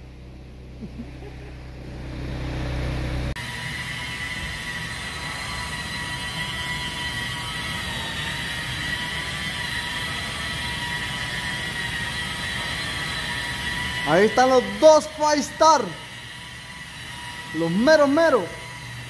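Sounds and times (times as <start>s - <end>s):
electric car polisher whining: 0.1s - 19.0s.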